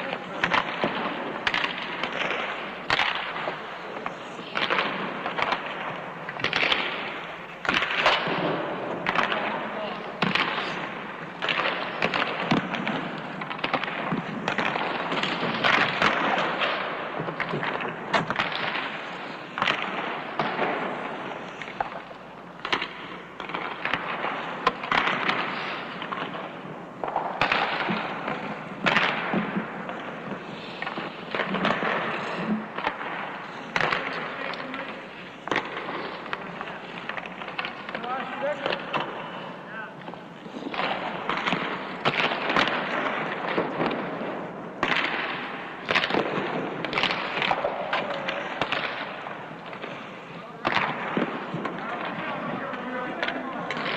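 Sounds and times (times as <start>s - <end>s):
hockey sticks striking pucks: 0.0s - 53.9s
noisy rink background: 0.0s - 53.9s.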